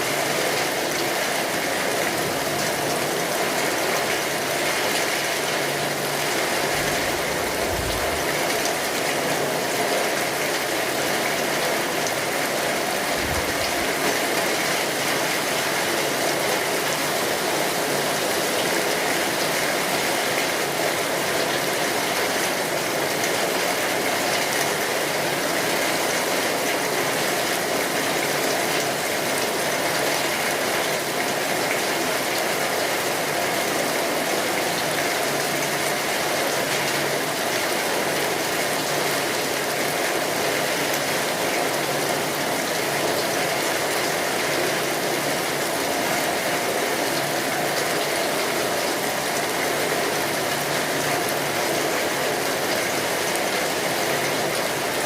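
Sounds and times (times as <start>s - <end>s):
rain on a tin roof: 0.0s - 55.0s.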